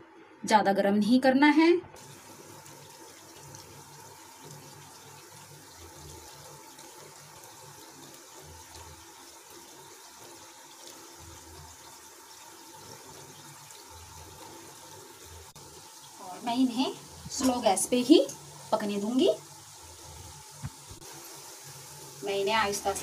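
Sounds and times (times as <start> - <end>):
oil sizzling and bubbling: 2.0 - 23.0.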